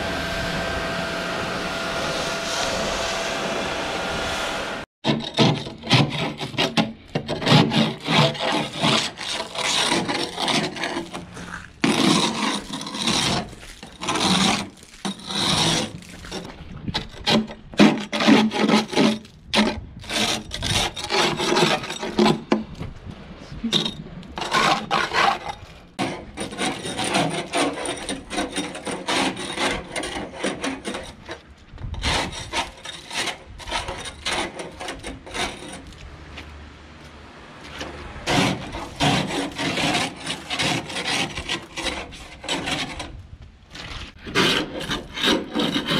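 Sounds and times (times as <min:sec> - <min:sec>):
rough rasping scraping: 0:05.0 - 0:22.8, 0:23.8 - 0:36.5, 0:37.6 - 0:45.9.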